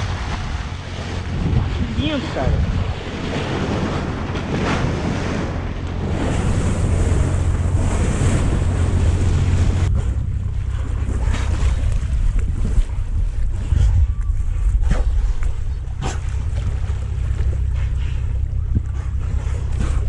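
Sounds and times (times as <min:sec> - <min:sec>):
low rumble: 0:00.0 - 0:20.0
water rushing past boat: 0:00.0 - 0:20.0
wind buffeting microphone: 0:00.0 - 0:20.0.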